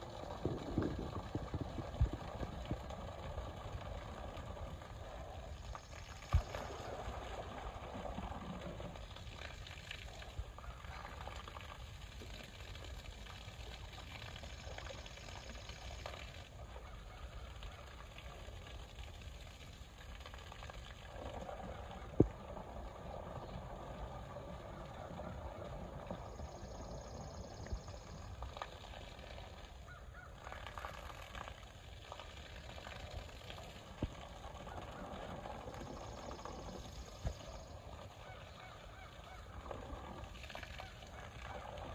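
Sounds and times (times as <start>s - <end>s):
falling water pouring: 0.0s - 41.9s
water splashing: 0.0s - 41.9s.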